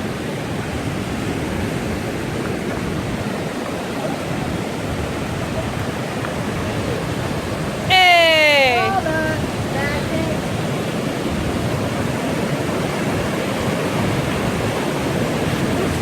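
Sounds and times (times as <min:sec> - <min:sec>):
creek rushing: 0:00.0 - 0:16.0.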